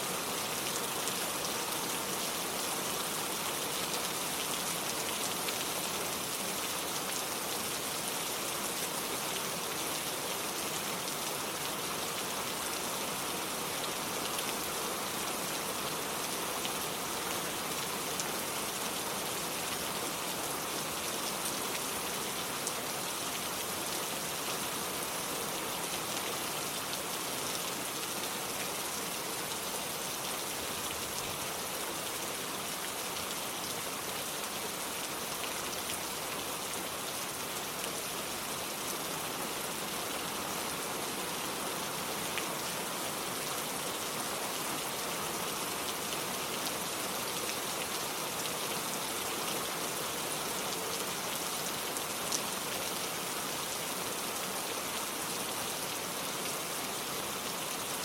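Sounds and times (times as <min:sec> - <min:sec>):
rain on water and wooden porch: 0:00.0 - 0:58.0.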